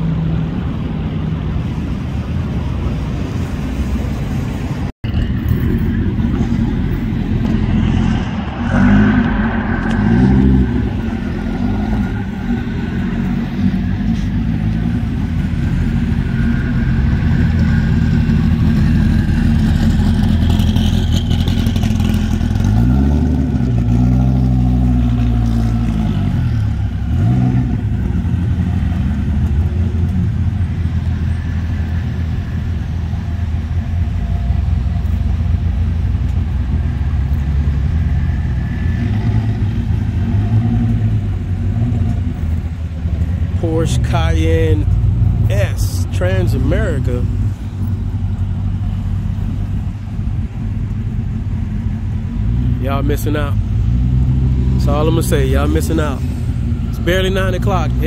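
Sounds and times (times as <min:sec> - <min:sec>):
sports car engines rumbling: 0:00.0 - 0:58.0
engine revs blipping: 0:05.0 - 0:58.0.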